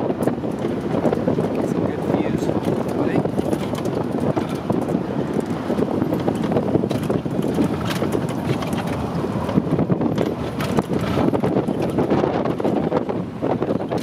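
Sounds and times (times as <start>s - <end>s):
truck engine and road rumble: 0.0s - 14.0s
truck knocking and rattling: 0.0s - 14.0s
wind buffeting microphone: 0.0s - 14.0s.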